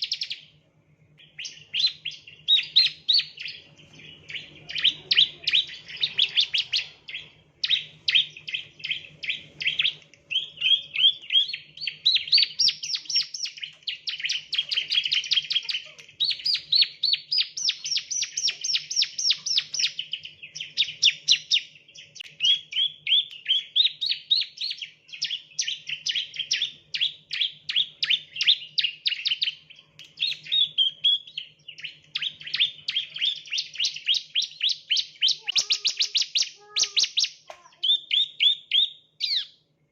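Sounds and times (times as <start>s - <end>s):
bird song of rapid high chirps: 0.0s - 39.8s.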